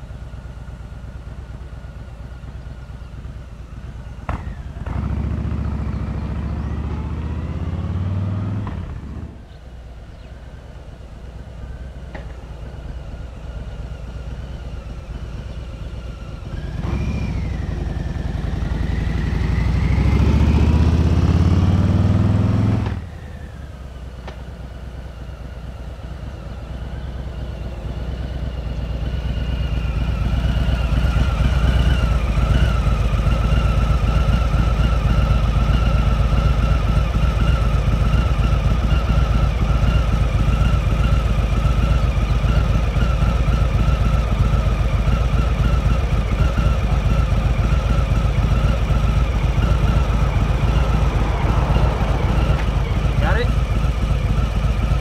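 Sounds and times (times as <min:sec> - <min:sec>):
motorcycle engine: 0:00.0 - 0:55.0.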